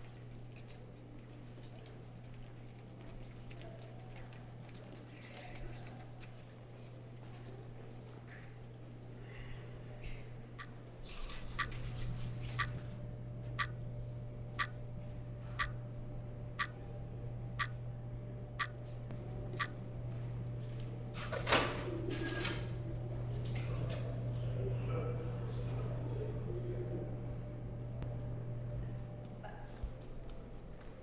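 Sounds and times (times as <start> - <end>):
steady low hum: 5.4 - 31.0.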